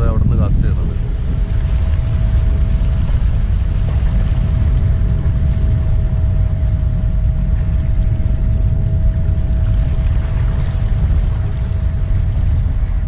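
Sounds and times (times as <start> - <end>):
waves washing over rocks: 0.0 - 13.0
wind rumble on microphone: 0.0 - 13.0
faint steady tone: 0.7 - 13.0.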